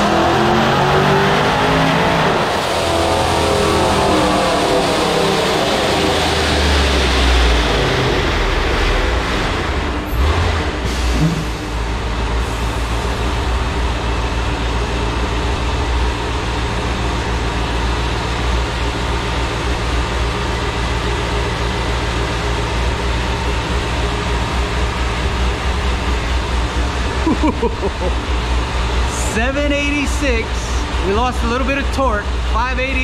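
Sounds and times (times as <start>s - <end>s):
loud low engine drone: 0.0s - 33.0s.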